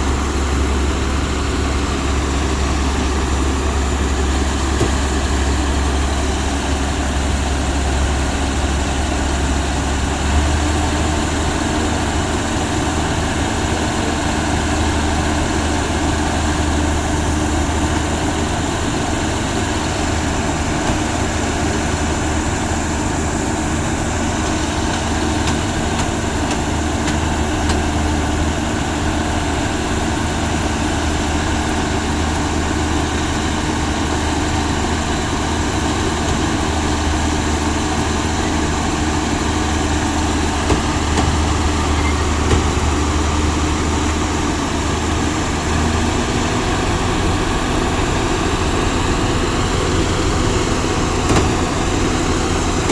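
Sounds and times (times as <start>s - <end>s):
combine harvester engine running: 0.0s - 52.9s.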